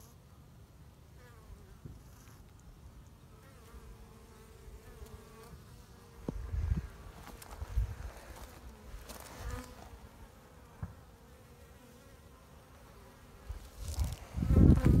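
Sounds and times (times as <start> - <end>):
honeybees buzzing: 1.2 - 15.0.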